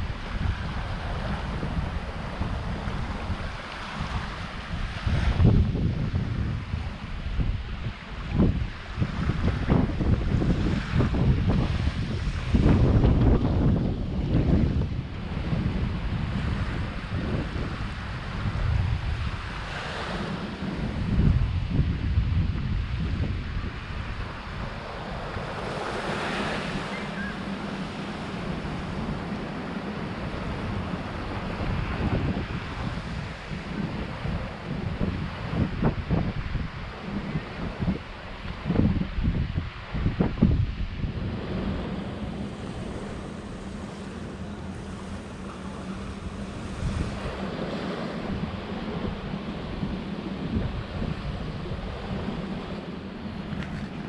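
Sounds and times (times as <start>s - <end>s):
sea waves washing: 0.0s - 54.0s
wind buffeting microphone: 0.0s - 54.0s.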